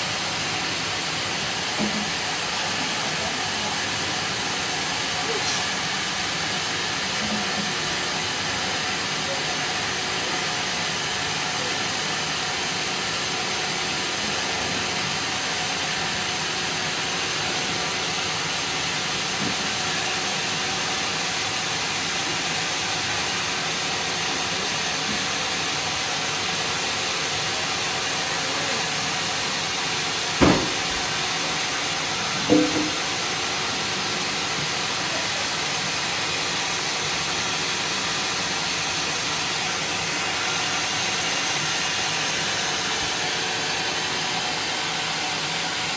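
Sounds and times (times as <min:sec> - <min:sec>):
hissing machine noise: 0:00.0 - 0:45.9.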